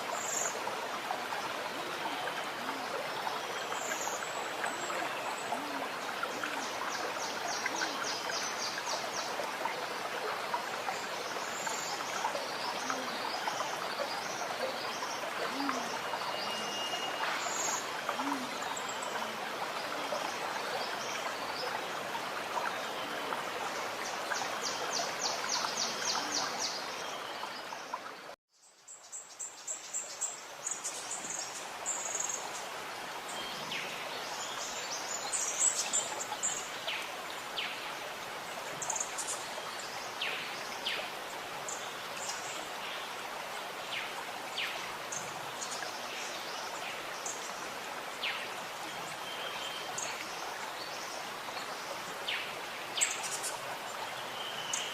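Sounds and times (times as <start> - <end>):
gurgling stream: 0.0 - 54.9.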